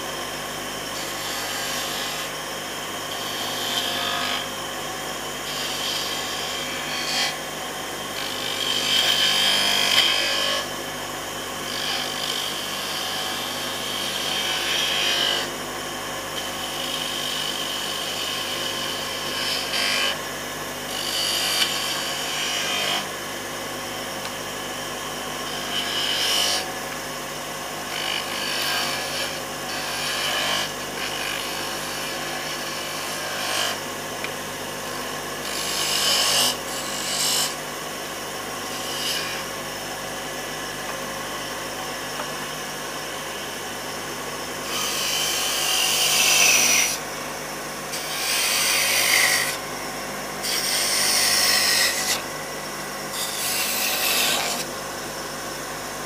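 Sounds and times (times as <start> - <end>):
chisel cutting spinning wood: 0.0 - 56.0
wood lathe running: 0.9 - 20.2, 20.9 - 24.4, 25.4 - 26.9, 27.8 - 34.3, 34.9 - 40.0, 44.6 - 47.0, 47.8 - 55.4.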